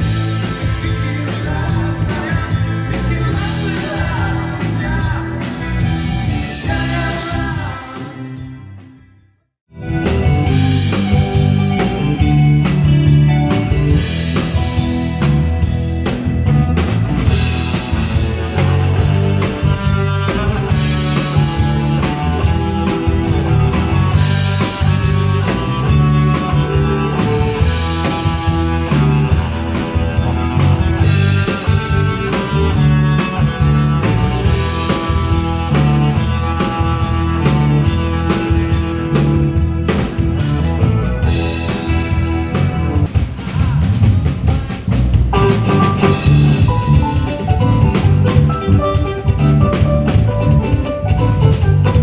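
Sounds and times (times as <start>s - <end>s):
drum kit beat: 0.0s - 8.6s, 9.7s - 52.0s
electric guitar: 0.0s - 9.1s, 9.7s - 52.0s
keyboard: 0.0s - 43.2s, 44.1s - 52.0s
bass guitar: 0.0s - 52.0s
rock band music: 0.0s - 52.0s.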